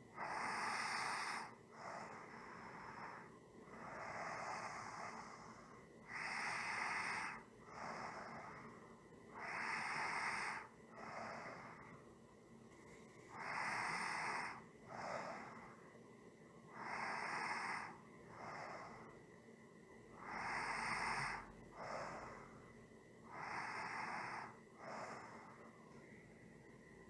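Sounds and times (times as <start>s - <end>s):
person breathing slowly: 0.0s - 12.1s, 13.2s - 16.0s, 16.7s - 19.3s, 20.1s - 26.5s.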